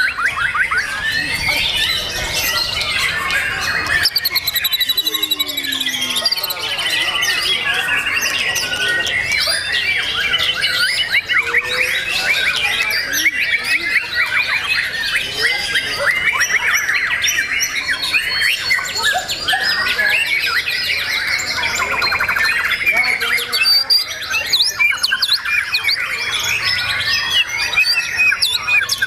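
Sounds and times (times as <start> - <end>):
other birds singing: 0.0 - 29.0
songbird whistles and trills: 0.0 - 29.0.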